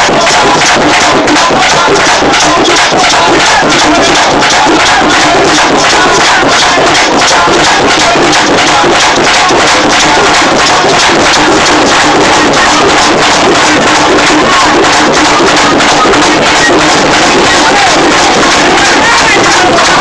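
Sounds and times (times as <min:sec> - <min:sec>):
fast drumming: 0:00.0 - 0:20.0.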